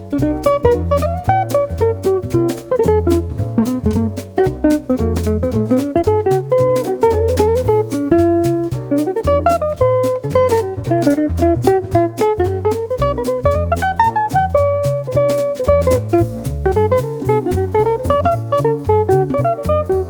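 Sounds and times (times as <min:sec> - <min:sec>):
drum-kit beat: 0:00.0 - 0:20.0
guitar: 0:00.0 - 0:20.0
walking bass line: 0:00.0 - 0:20.0.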